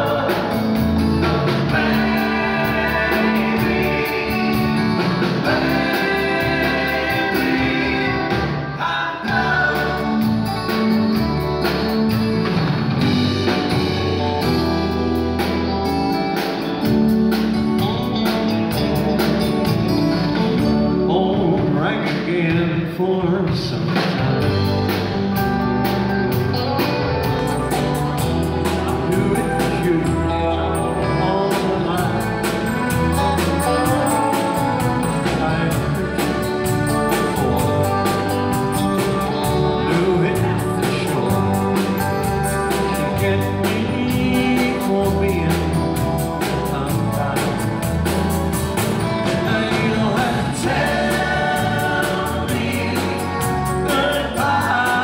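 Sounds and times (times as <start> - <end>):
live rock band: 0.0 - 55.0.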